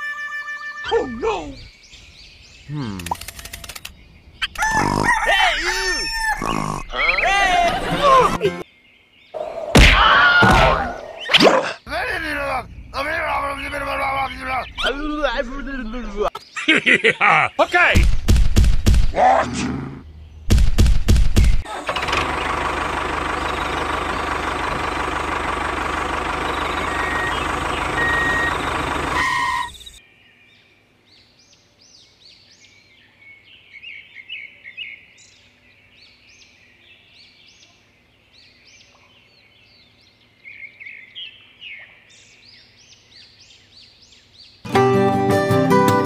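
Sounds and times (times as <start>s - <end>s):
birds chirping: 0.0s - 18.1s, 19.1s - 44.7s.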